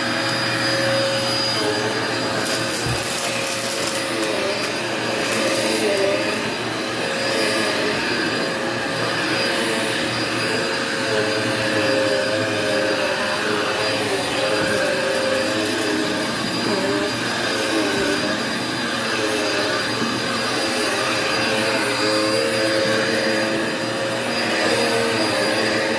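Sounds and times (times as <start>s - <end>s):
vacuum cleaner running on carpet: 0.0s - 25.9s.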